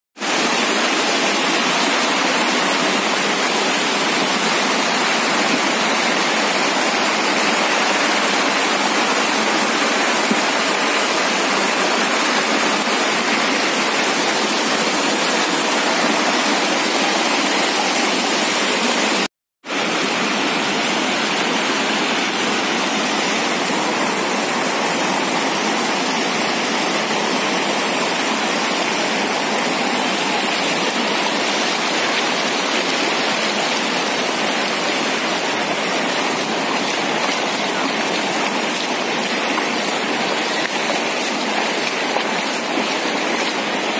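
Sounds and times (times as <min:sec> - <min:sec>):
floodwater rushing and roaring: 0:00.2 - 0:43.9.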